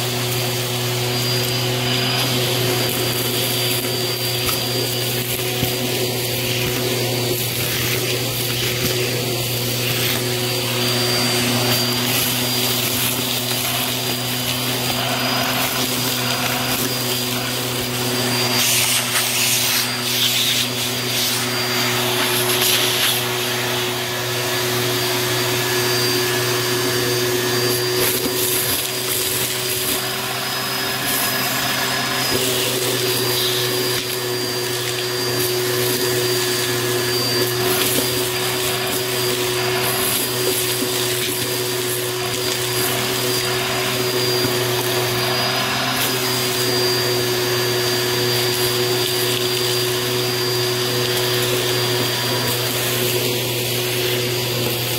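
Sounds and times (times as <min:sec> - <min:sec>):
vacuum cleaner running with whistle: 0:00.0 - 0:54.9.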